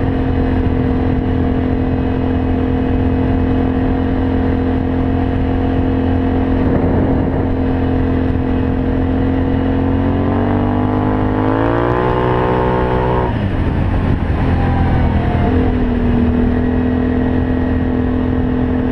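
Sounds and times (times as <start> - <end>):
atv engine revving: 0.0 - 18.9.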